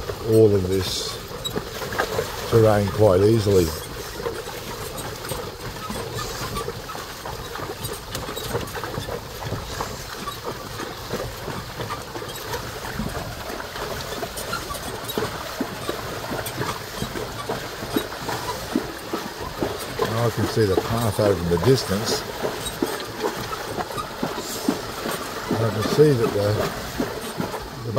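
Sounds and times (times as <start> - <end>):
cart wheels rattling over rough ground: 0.0 - 27.9.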